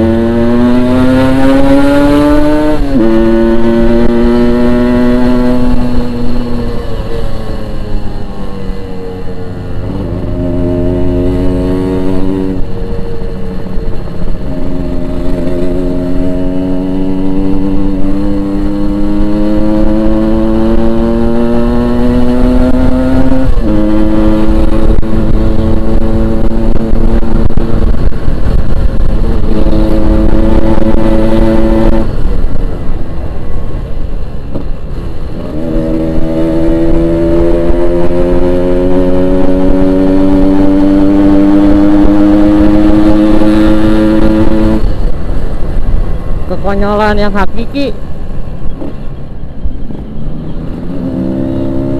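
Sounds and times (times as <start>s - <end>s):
motorcycle engine shifting gears: 0.0s - 51.9s
wind rumble on microphone: 0.0s - 51.9s.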